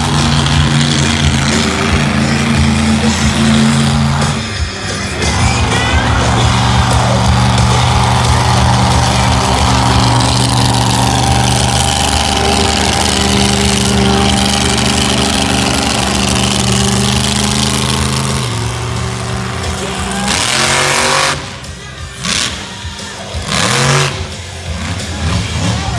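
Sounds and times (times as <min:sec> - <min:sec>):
truck engine revving high: 0:00.0 - 0:25.9.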